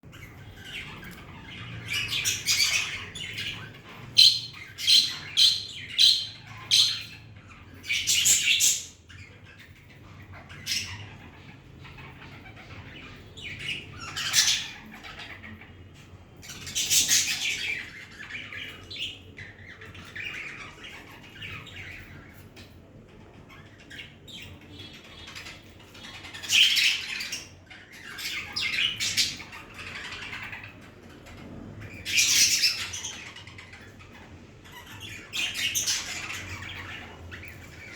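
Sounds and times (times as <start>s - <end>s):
budgerigars chirping and squawking: 0.1s - 37.9s.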